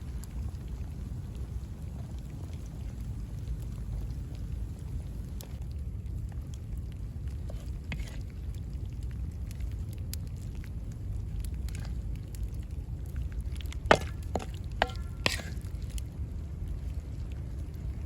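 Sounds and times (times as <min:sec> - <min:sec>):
low wind rumble: 0:00.0 - 0:18.0.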